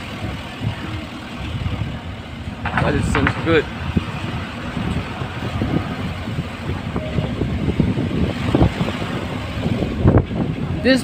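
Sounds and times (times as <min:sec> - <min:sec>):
car engine and road rumble: 0:00.0 - 0:11.0
low thumps from bumps: 0:01.6 - 0:10.8.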